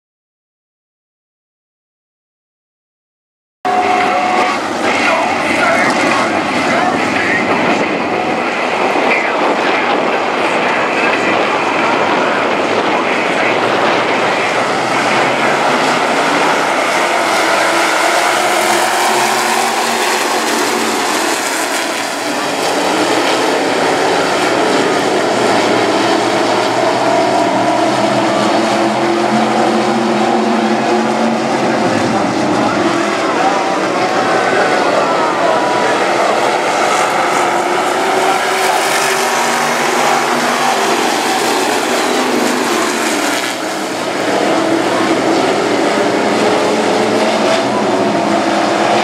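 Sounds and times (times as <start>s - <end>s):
race car engines roaring: 3.7s - 49.0s.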